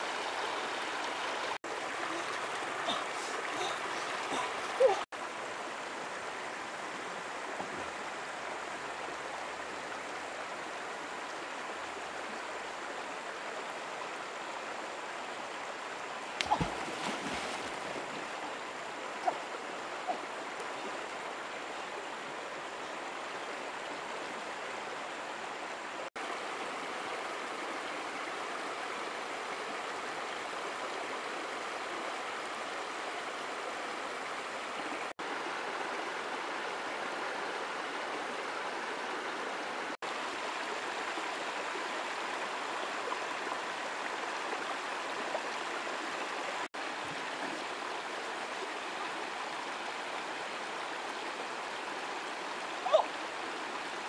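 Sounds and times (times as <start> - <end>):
water rushing over rocks: 0.0 - 13.2, 15.0 - 54.0.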